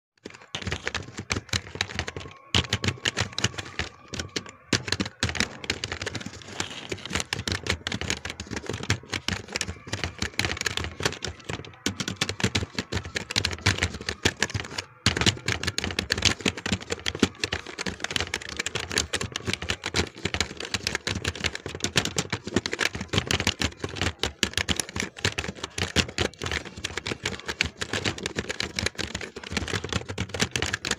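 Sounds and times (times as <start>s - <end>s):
typing on computer keyboard: 0.2s - 30.9s.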